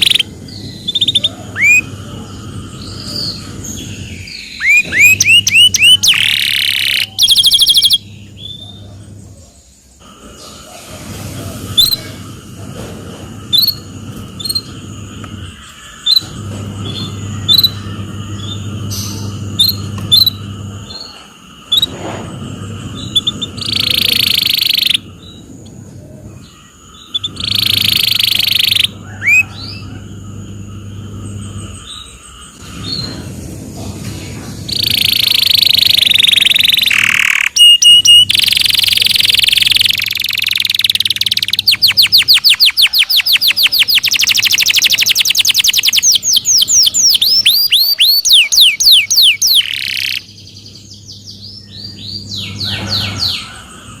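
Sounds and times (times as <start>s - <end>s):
canary singing: 0.0s - 10.6s, 11.7s - 33.2s, 34.6s - 54.0s.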